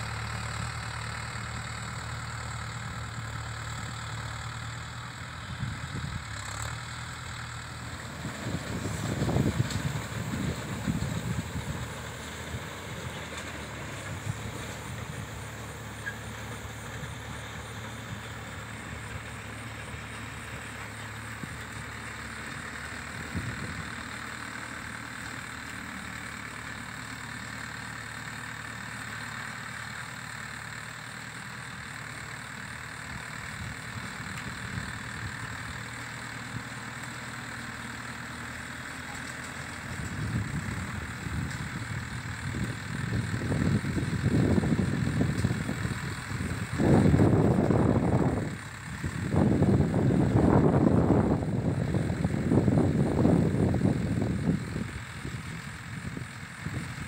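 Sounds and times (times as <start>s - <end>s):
baler machinery noise: 0.0s - 57.0s
tractor diesel engine humming: 0.0s - 57.0s.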